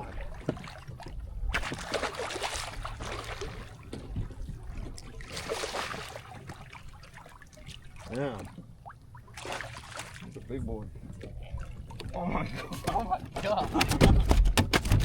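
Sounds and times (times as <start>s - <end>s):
water splashing around kayak: 0.0s - 15.0s.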